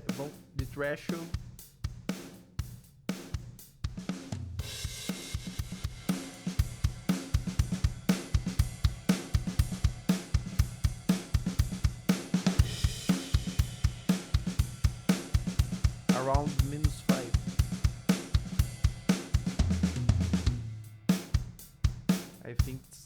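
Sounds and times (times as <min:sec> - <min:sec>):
drum kit loop: 0:00.0 - 0:23.0.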